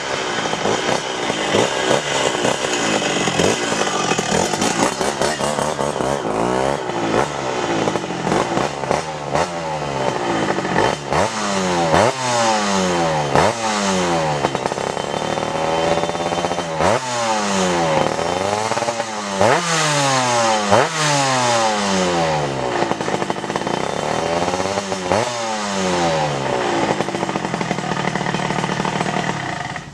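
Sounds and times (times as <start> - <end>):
small motorbike engine revving: 0.0 - 29.9.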